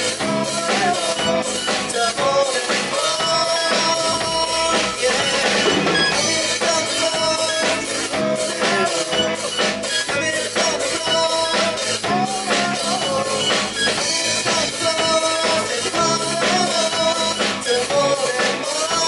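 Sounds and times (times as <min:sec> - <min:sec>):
person singing: 0:00.0 - 0:19.0
rock band playing: 0:00.0 - 0:19.0.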